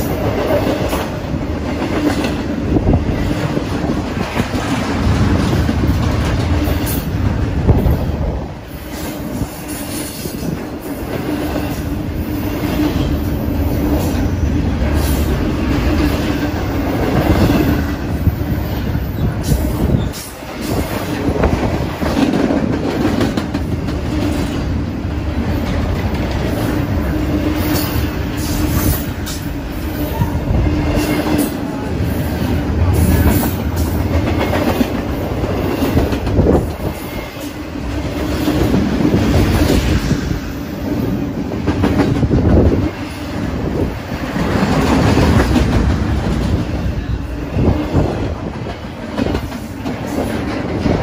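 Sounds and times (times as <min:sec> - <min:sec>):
steel wheels rumbling on rails: 0:00.0 - 0:51.0.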